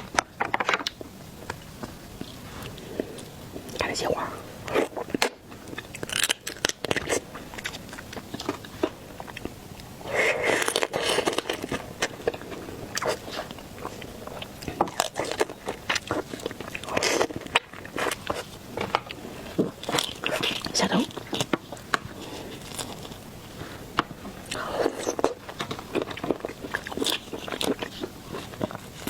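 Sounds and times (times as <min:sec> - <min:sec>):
shellfish crunching and cracking: 0:00.0 - 0:04.0, 0:04.6 - 0:29.0.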